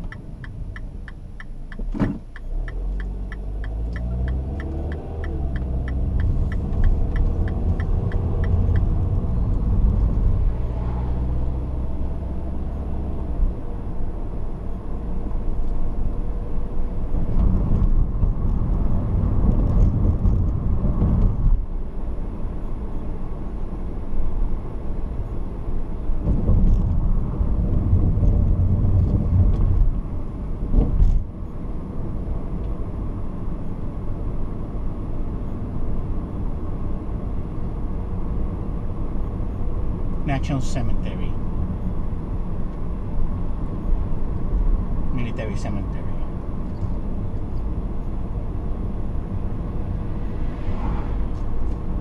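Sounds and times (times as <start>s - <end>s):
car engine and tyre noise: 0.0s - 52.0s.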